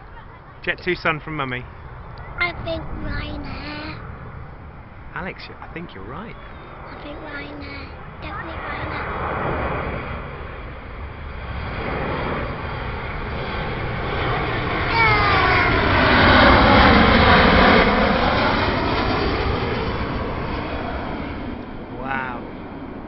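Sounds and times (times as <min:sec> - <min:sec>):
jet airliner passing low: 0:00.0 - 0:23.0.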